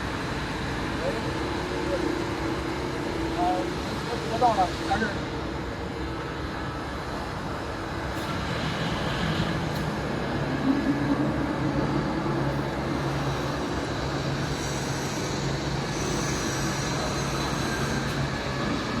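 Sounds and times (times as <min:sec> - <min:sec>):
machinery humming: 0:00.0 - 0:19.0.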